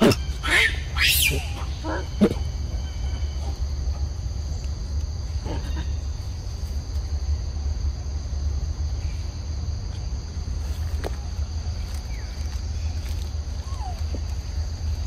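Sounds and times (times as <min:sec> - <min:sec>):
insect chorus trilling: 0:00.0 - 0:15.0.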